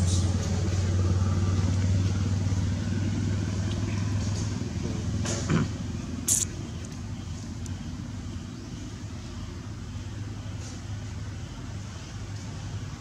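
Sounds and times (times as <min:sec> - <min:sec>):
motor engine running: 0:00.0 - 0:11.2.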